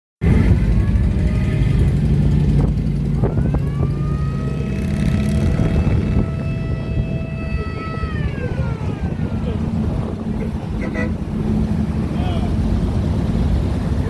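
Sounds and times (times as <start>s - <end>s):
car engine rumbling: 0.2s - 14.0s.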